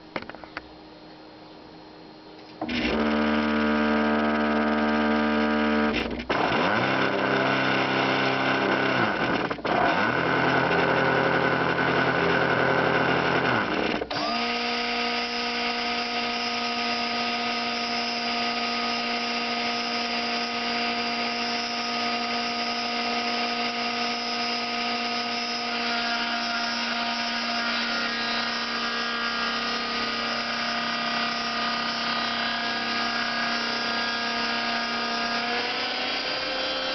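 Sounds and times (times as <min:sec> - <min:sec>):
stepper motor mechanical whine: 0:02.6 - 0:36.9.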